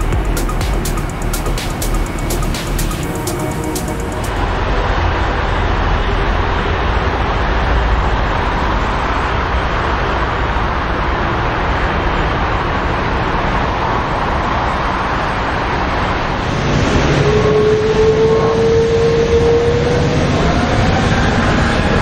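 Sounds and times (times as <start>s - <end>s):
engine whine rising in pitch: 0.0s - 22.0s
jet engines rushing: 0.0s - 22.0s.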